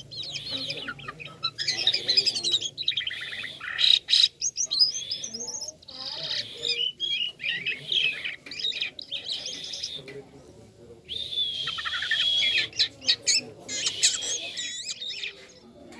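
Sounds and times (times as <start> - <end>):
starling singing: 0.0 - 10.2, 11.0 - 15.8.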